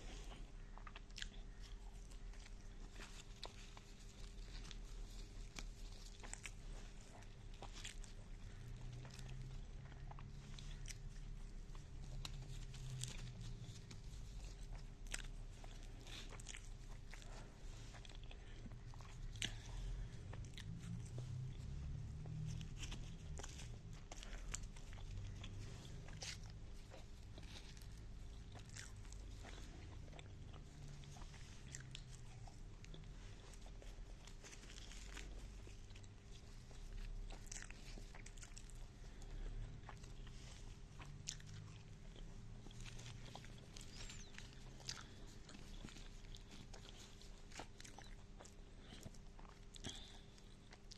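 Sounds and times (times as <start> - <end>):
low steady hum: 0.0 - 50.9
person chewing food: 0.0 - 50.9.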